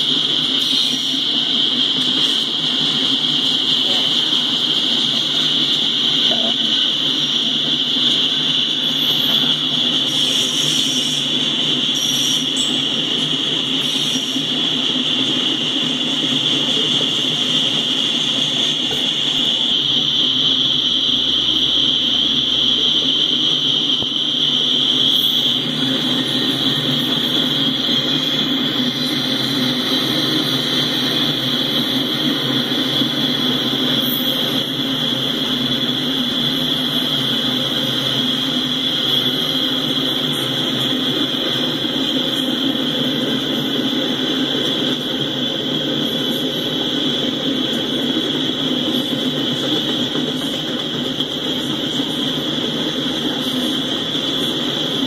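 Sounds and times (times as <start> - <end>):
freight train wheel rumble: 0.0 - 55.0.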